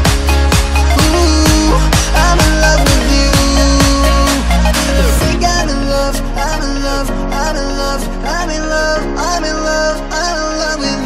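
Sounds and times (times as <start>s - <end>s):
electronic music with sliding notes: 0.0s - 11.0s
steady bass: 0.0s - 11.0s.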